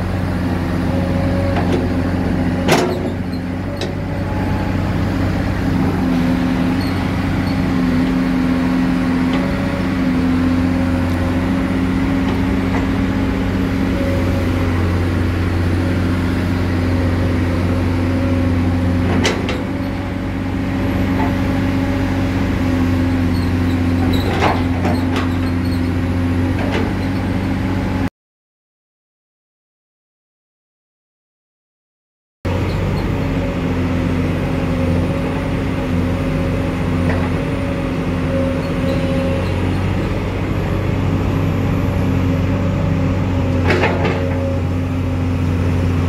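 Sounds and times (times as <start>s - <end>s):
excavator diesel engine running: 0.0s - 28.1s, 32.5s - 46.0s.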